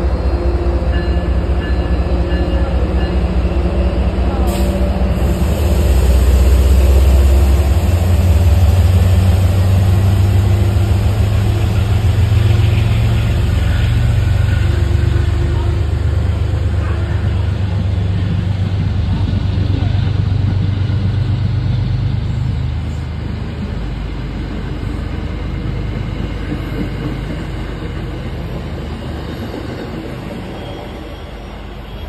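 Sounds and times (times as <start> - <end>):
diesel locomotive engine rumble: 0.0 - 32.0
train coaches rolling: 0.0 - 32.0.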